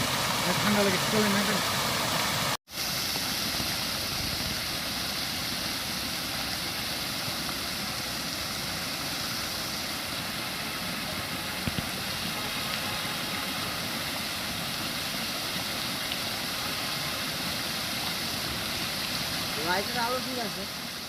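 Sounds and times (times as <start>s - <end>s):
water fountain splashing: 0.0s - 21.0s.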